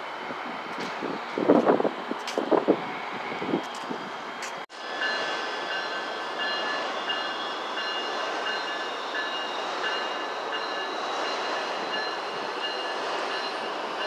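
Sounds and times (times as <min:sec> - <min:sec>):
passenger train rumbling past: 0:00.0 - 0:14.0.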